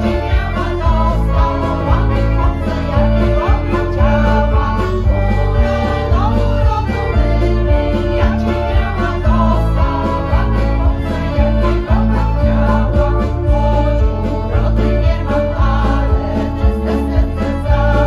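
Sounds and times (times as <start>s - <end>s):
accordion: 0.0s - 18.0s
pulsing bass beat: 0.0s - 18.0s
women singing in chorus: 0.0s - 18.0s.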